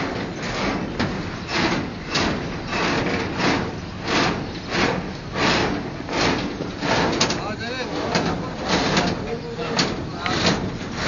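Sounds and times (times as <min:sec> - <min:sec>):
rasping scraping strokes: 0:00.0 - 0:11.0.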